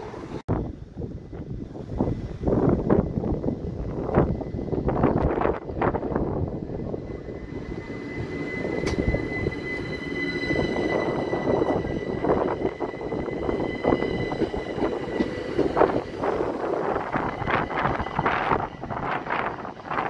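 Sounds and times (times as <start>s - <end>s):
train wheels rumbling and clattering: 0.0s - 20.0s.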